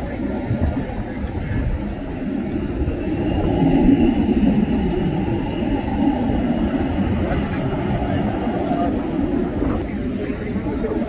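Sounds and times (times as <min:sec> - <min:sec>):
jet engines low rumble: 0:00.0 - 0:11.0.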